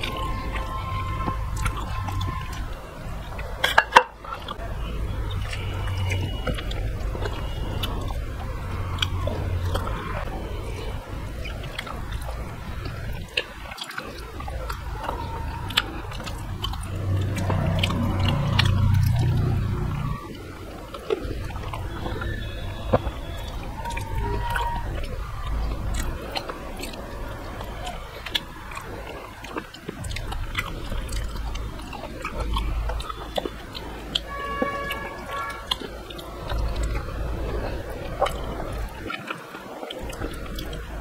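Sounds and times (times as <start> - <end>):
man chewing food: 0.0 - 41.0.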